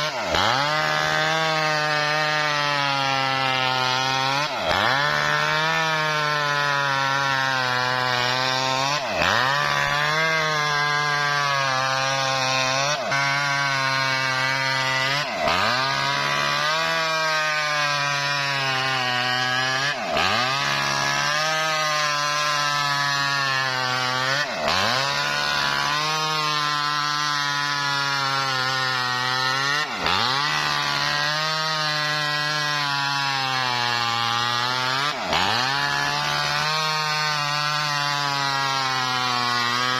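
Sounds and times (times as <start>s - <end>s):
petrol saw cutting wood: 0.0s - 39.9s.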